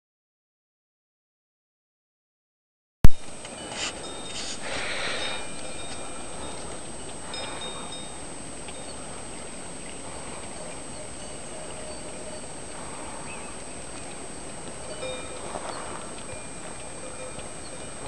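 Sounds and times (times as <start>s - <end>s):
outdoor background noise: 3.1s - 18.0s.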